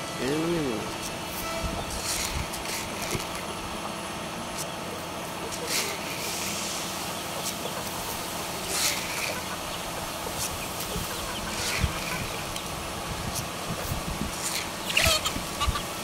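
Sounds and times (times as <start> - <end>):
chickens clucking: 0.0 - 16.0
steady background noise: 0.0 - 16.0.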